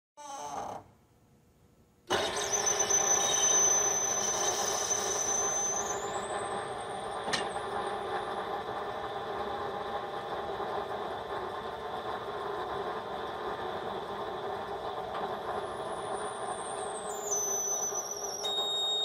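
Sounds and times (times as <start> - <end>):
engine mechanical whir with whine: 2.1 - 19.0.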